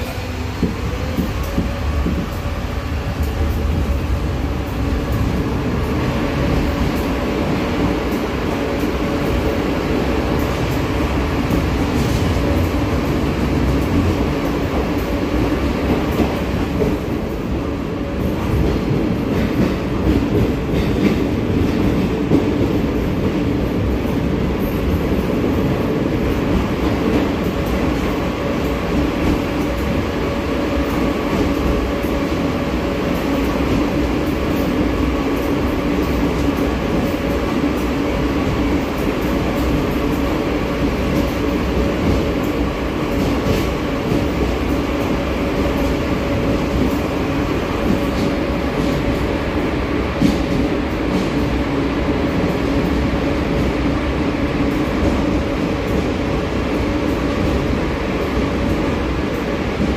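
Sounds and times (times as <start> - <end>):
subway train rumbling: 0.0 - 59.9.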